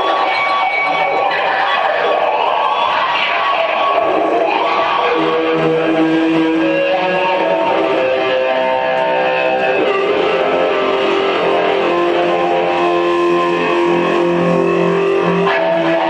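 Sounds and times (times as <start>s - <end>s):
electric guitar through amplifier: 0.0s - 16.0s.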